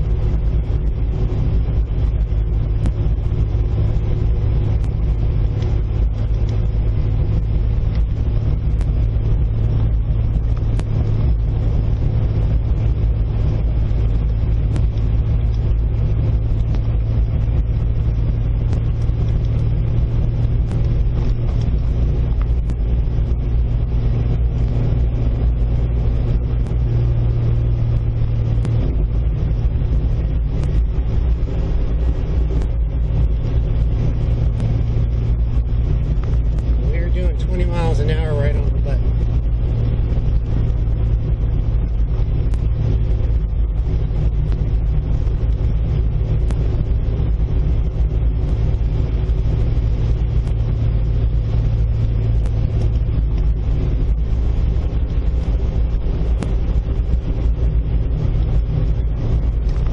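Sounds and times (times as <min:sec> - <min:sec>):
engine and road drone: 0:00.0 - 0:59.9
gravel ticks and rattles: 0:00.0 - 0:59.9.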